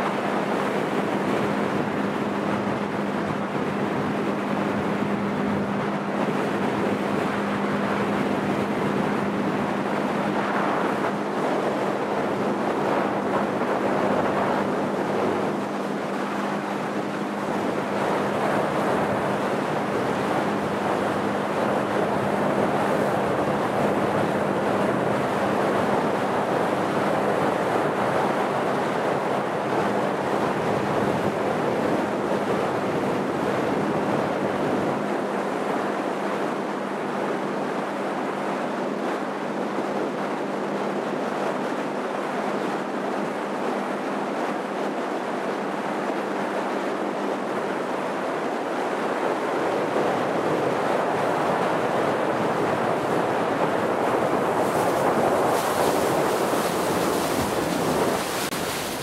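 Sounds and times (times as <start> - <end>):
motorboat engine drone: 0.0 - 59.0
water rushing along hull: 0.0 - 59.0
wind buffeting microphone: 0.0 - 59.0.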